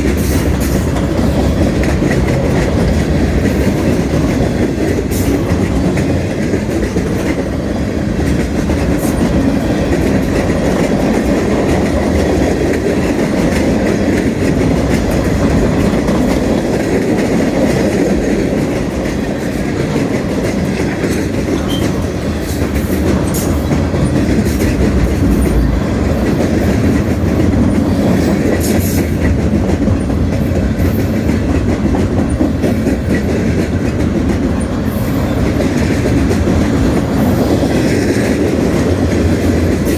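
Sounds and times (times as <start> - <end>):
freight train cars rolling: 0.0 - 39.9
wheels clicking over rail joints: 0.0 - 39.9.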